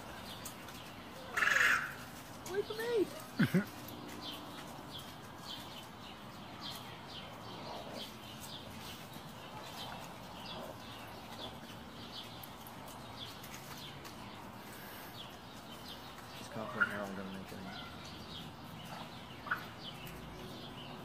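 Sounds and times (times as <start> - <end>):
bird chirping: 0.0 - 21.0
outdoor background noise: 0.0 - 21.0.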